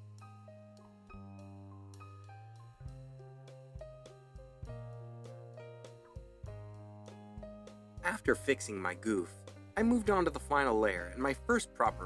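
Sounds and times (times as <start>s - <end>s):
instrumental music with bass and plucks: 0.0s - 12.0s.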